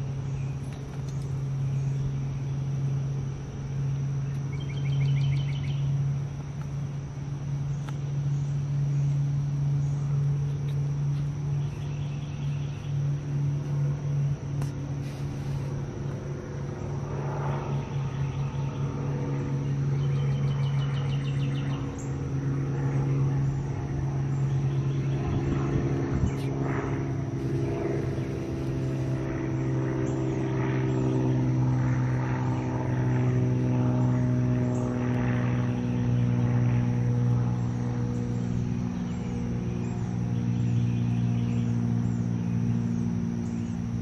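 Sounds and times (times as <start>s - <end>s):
low motor drone: 0.0s - 44.0s.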